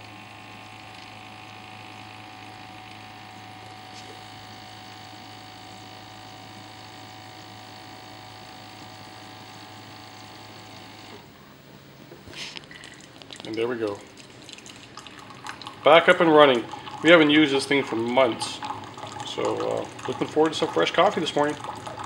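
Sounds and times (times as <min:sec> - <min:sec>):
water pump humming: 0:00.0 - 0:22.0.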